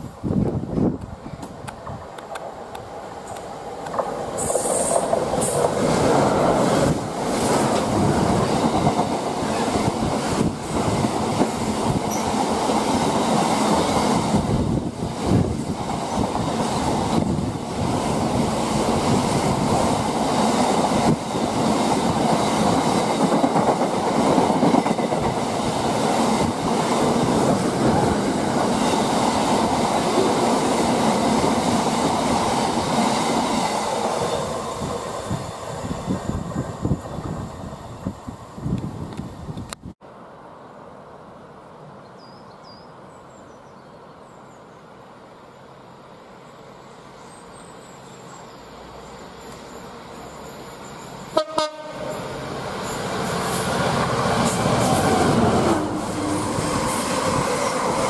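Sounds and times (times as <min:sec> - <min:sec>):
train wheels on rail: 0:00.0 - 0:40.0, 0:48.7 - 0:58.0
diesel locomotive passing: 0:00.0 - 0:42.0, 0:48.6 - 0:58.0.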